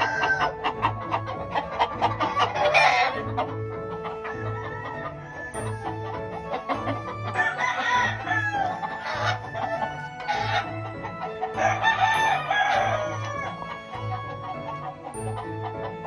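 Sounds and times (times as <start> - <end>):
rooster crowing: 0.0 - 15.0
background music with steady beat: 0.0 - 16.0.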